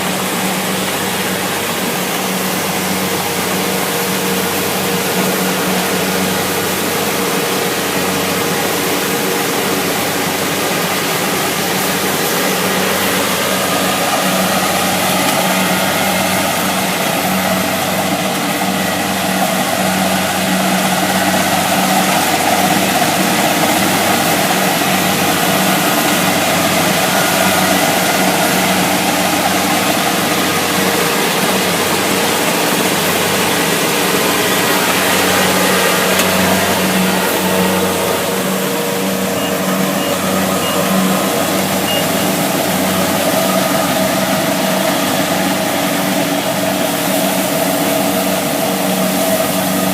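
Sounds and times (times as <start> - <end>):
broad rushing noise: 0.0 - 49.9
combine harvester diesel engine: 0.0 - 49.9.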